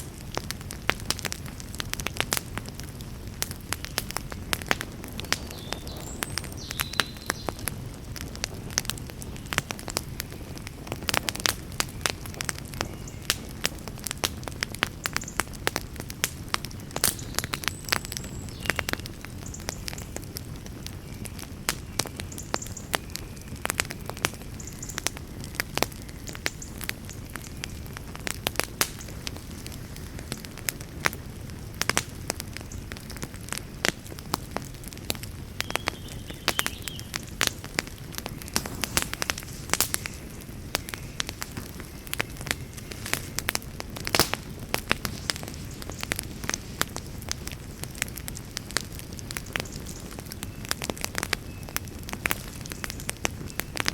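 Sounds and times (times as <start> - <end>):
campfire crackling: 0.0 - 53.9
low rumble of burning: 0.0 - 53.9.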